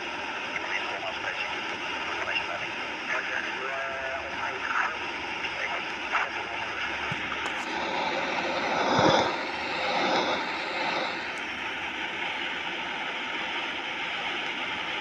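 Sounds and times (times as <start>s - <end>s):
airplane engines running: 0.0s - 15.0s.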